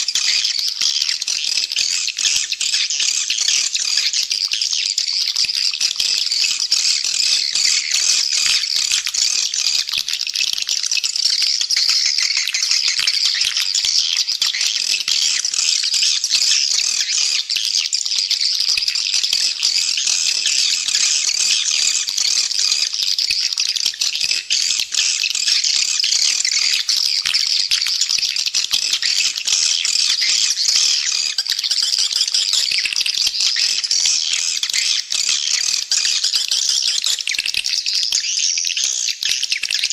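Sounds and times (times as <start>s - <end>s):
birds twittering in chorus: 0.0s - 39.9s.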